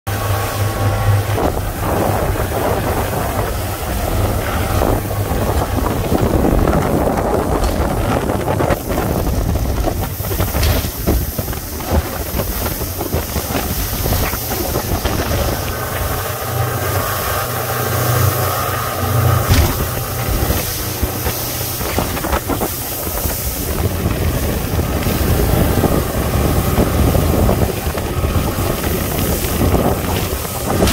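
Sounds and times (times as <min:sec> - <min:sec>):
outboard motor hum: 0:00.1 - 0:30.9
wind on microphone: 0:00.1 - 0:30.9.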